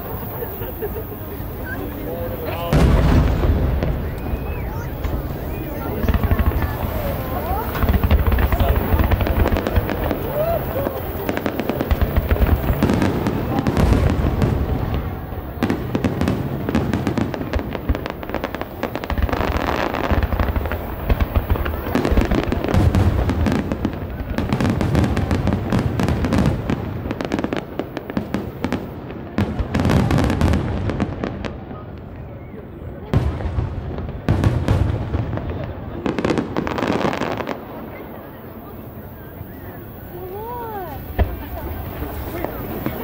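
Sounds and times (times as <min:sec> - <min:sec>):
deep firework booms: 0:00.0 - 0:32.1, 0:33.0 - 0:43.0
firework crackling: 0:00.0 - 0:43.0.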